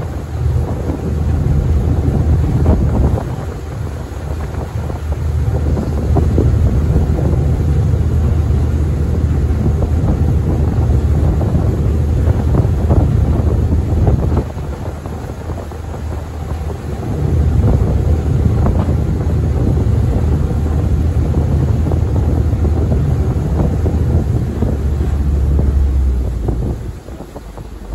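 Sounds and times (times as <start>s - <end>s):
ferry engine droning: 0.0s - 27.9s
wind buffeting microphone: 0.0s - 27.9s.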